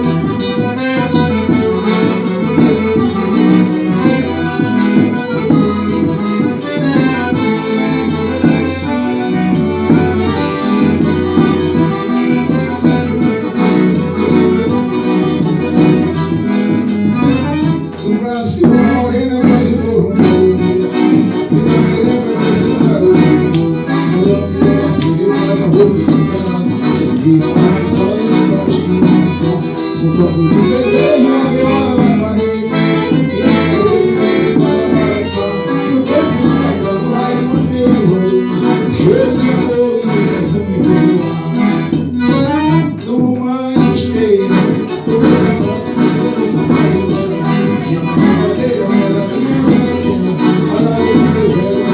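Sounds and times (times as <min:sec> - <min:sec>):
accordion: 0:00.0 - 0:51.9
shaken and struck percussion: 0:00.0 - 0:51.9.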